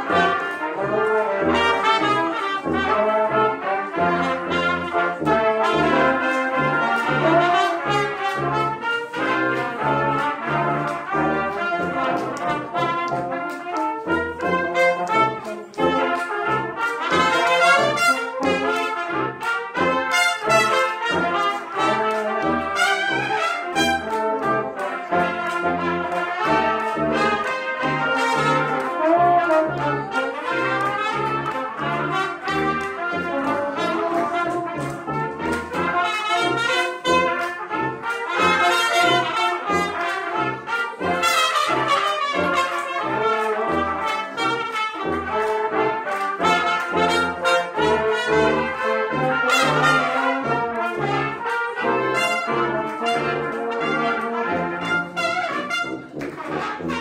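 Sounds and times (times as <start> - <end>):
brass ensemble playing: 0.0 - 57.0
tuba bass notes: 0.0 - 57.0.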